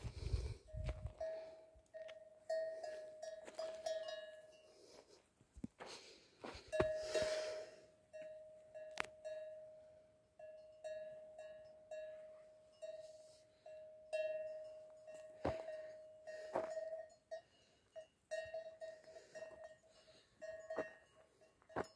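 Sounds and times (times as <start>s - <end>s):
cowbell clanking: 0.8s - 4.9s, 6.7s - 21.9s.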